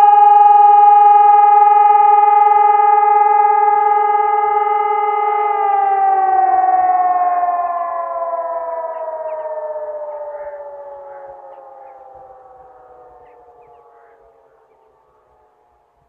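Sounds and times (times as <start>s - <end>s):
rotary sirens wailing: 0.0s - 16.0s.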